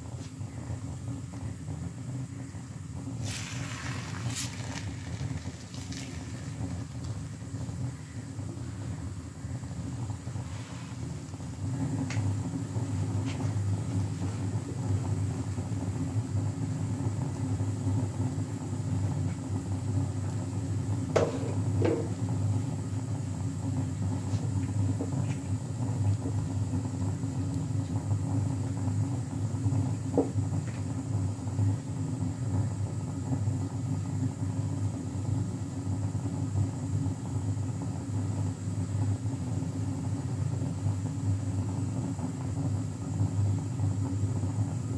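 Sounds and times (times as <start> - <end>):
stove low rumble: 0.0 - 44.9.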